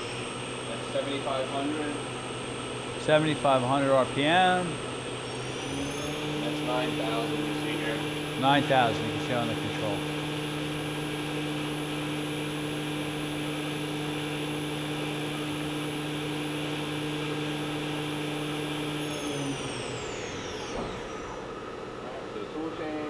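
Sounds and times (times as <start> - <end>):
machine spindle humming and whining: 0.0 - 23.0.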